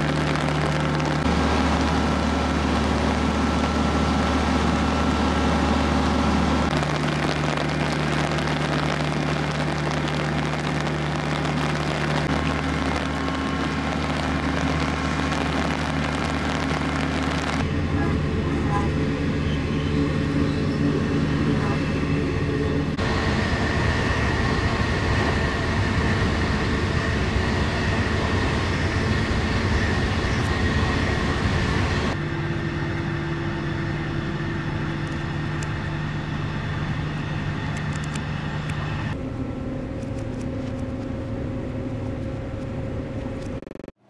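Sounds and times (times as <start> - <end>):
train wheels rumbling on rails: 0.0 - 39.2
steady train hum: 0.0 - 43.9.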